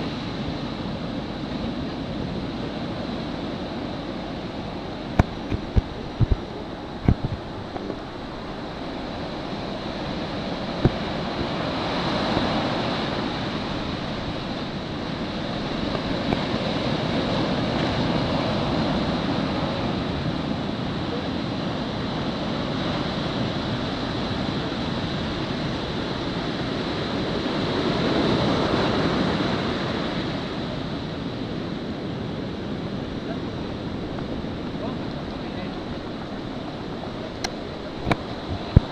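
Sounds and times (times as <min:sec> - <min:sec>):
surf waves breaking: 0:00.0 - 0:38.9.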